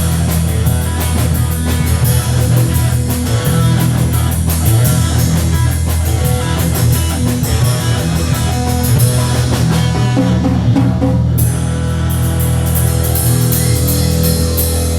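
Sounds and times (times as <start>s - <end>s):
bass guitar: 0.0s - 14.9s
distorted electric guitar: 0.0s - 14.9s
drum kit: 0.0s - 14.9s.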